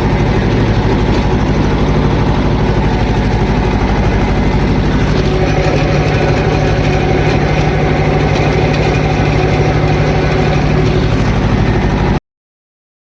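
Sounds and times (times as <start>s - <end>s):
tractor diesel engine running: 0.0s - 12.2s.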